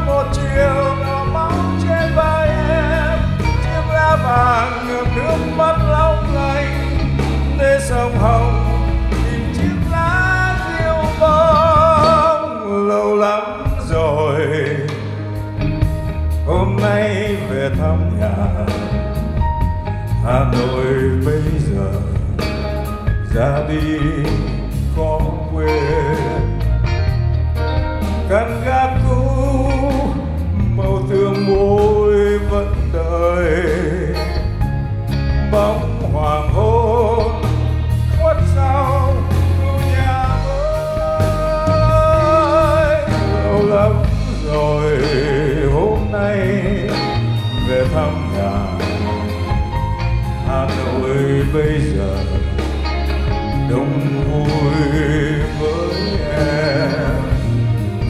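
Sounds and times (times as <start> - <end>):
man singing: 0.0 - 27.2, 27.8 - 58.0
bass guitar: 0.0 - 58.0
keyboard: 0.0 - 58.0
violin: 0.0 - 58.0.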